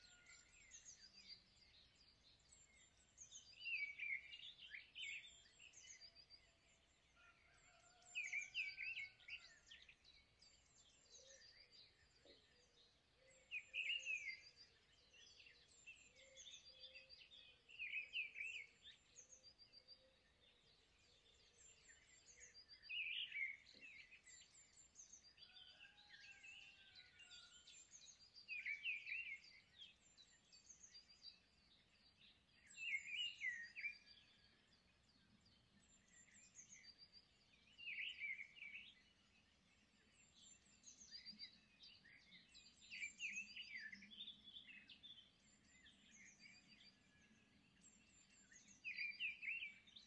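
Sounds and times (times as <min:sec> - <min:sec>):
faint bird chirping: 0:00.0 - 0:50.0.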